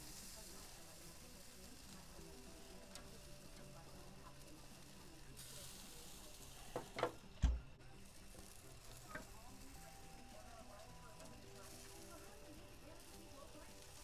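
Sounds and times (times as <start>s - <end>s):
sausages sizzling on a grill: 0.0s - 14.0s.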